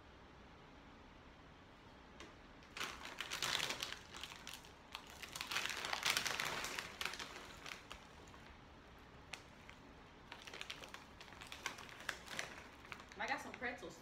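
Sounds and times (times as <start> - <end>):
plastic snack bag crinkling: 2.6 - 14.0.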